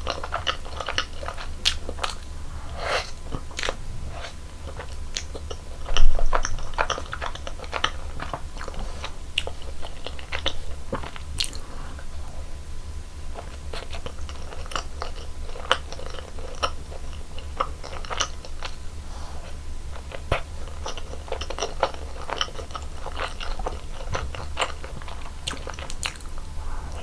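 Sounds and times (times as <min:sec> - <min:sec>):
biting and chewing donuts: 0:00.0 - 0:27.0.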